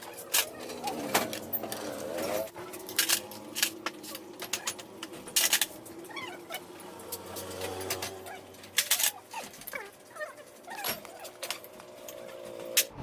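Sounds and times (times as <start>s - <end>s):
metal tools clinking: 0.0s - 12.9s.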